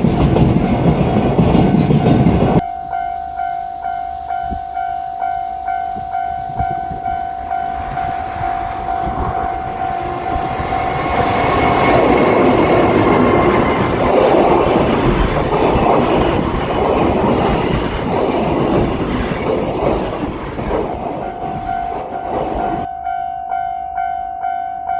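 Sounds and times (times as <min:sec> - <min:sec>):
train wheels rumbling on rails: 0:00.0 - 0:02.9, 0:03.6 - 0:22.9.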